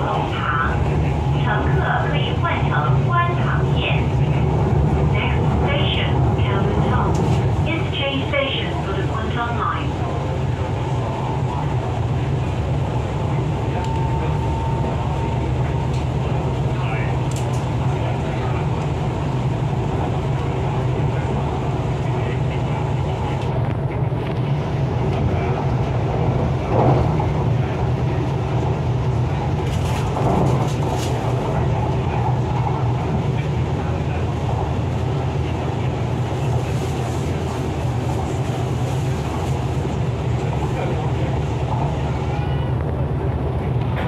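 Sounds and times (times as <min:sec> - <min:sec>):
train running rumble: 0:00.0 - 0:44.0.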